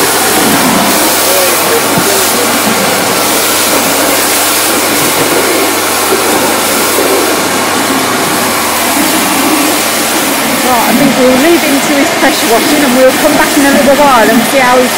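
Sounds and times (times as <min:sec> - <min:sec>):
pressure washer motor hum: 0:00.0 - 0:14.9
water jet hissing on paving: 0:00.0 - 0:14.9.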